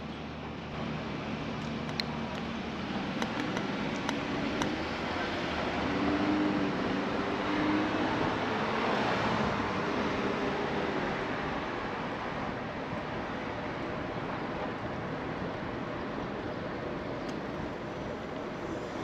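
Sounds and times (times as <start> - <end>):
traffic hum: 0.0 - 19.0
wind and road noise: 0.0 - 19.0.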